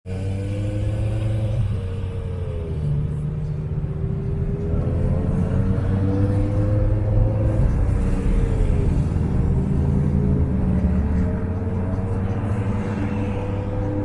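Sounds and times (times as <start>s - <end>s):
car engine rumbling: 0.1s - 14.0s.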